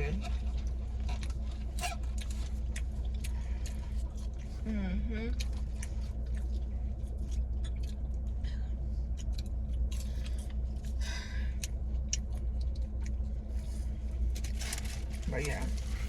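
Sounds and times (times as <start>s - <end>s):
car hum: 0.0s - 16.0s
person chewing food: 0.2s - 4.6s, 5.3s - 14.6s.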